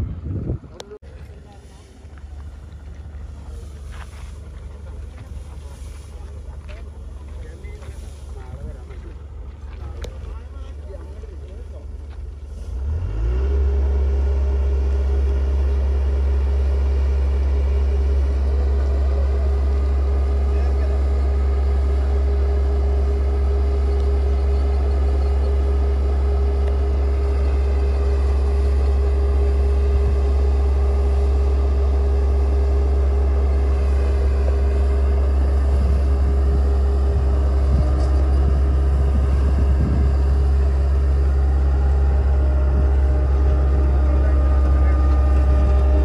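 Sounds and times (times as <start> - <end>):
large engine running: 0.0 - 46.0.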